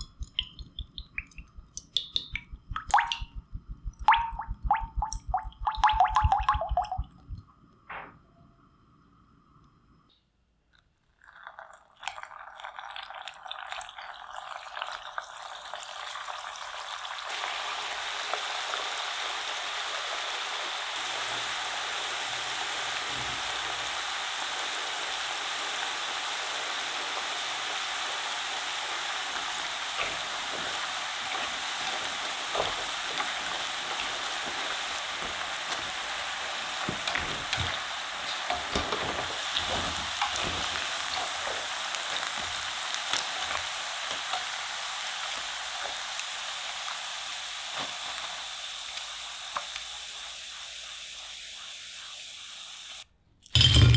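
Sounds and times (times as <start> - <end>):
food deep-frying in oil: 0.0 - 3.3, 11.2 - 53.0.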